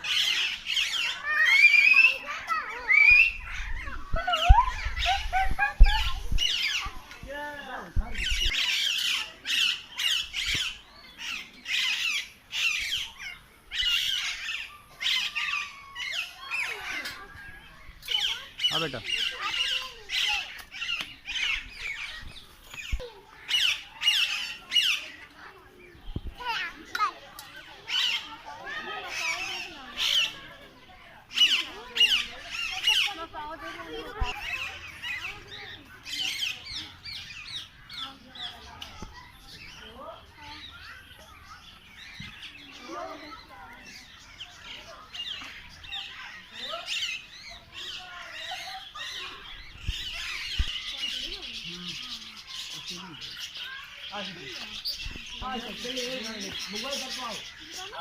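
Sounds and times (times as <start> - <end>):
birds squawking: 0.0 - 25.9, 26.5 - 58.0.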